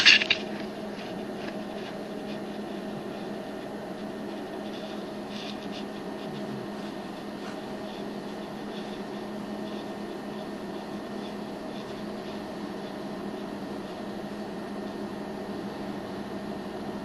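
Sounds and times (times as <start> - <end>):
low hum: 0.0 - 14.3.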